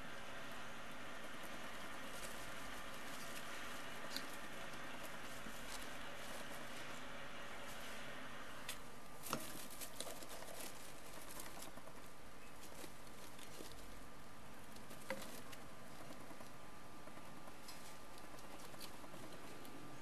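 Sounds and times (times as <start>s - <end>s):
rats scrabbling in paper bedding: 0.7s - 20.0s.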